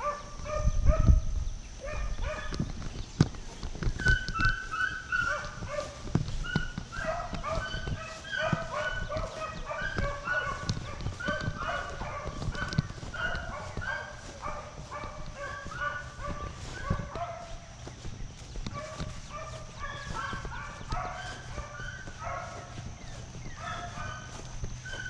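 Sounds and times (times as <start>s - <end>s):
dogs baying: 1.8s - 2.7s, 3.5s - 25.0s.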